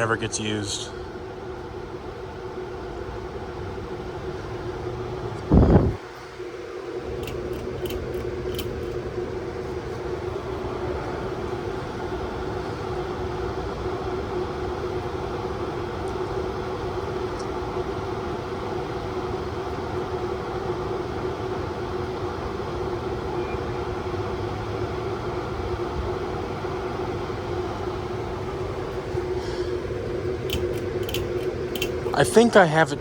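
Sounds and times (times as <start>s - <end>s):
ceiling fan humming: 0.0s - 33.0s.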